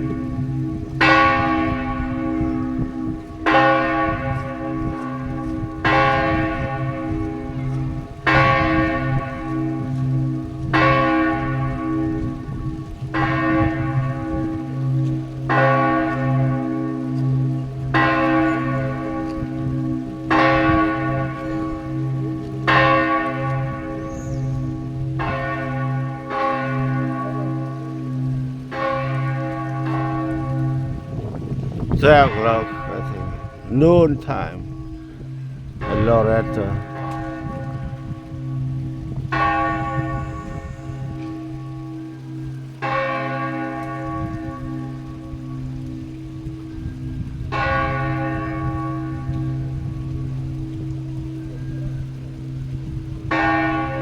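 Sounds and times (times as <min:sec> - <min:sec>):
church bells striking: 0:00.0 - 0:54.0.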